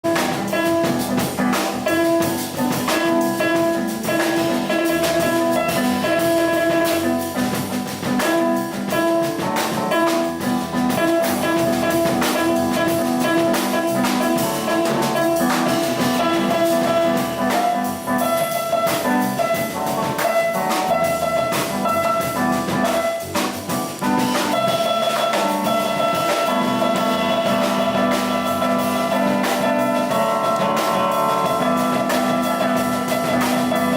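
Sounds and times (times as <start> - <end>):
jazz piano trio playing: 0.0 - 33.9.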